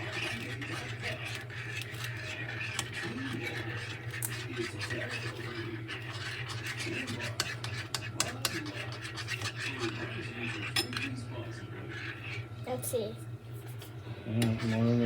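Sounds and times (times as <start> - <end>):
spoon stirring sticky slime: 0.0 - 15.0.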